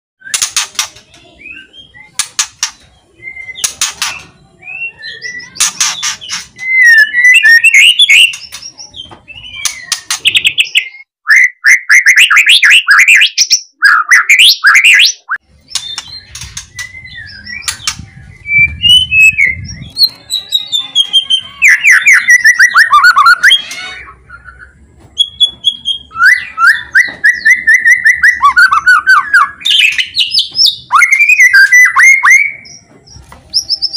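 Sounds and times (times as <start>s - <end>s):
songbird whistled phrases and trills: 0.2s - 33.9s.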